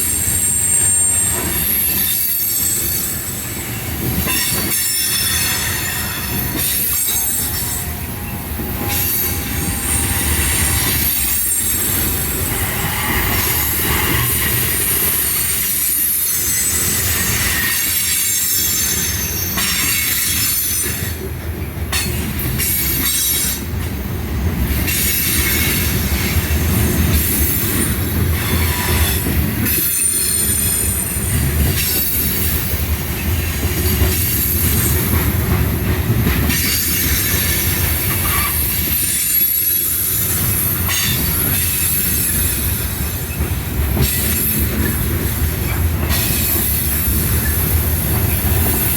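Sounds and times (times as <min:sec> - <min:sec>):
freight train rolling past: 0:00.0 - 0:48.9
steel wheels squealing on rails: 0:00.0 - 0:48.9.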